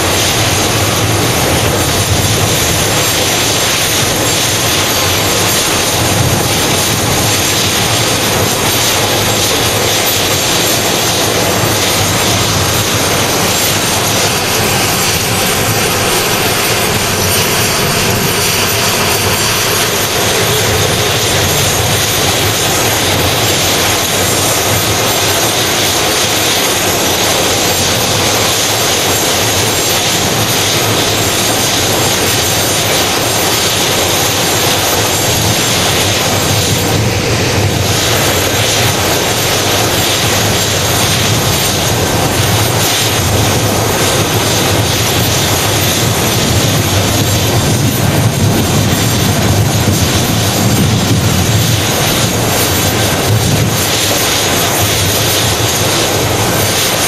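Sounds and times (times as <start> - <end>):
helicopter turbine rush: 0.0 - 57.0.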